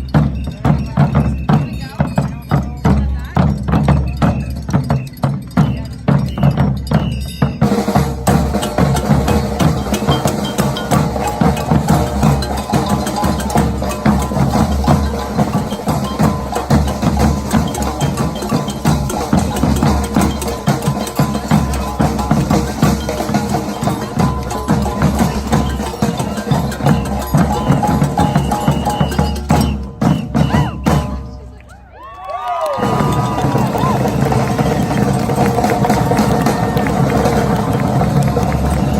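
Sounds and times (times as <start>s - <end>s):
band music with driving drum beat: 0.0s - 38.9s.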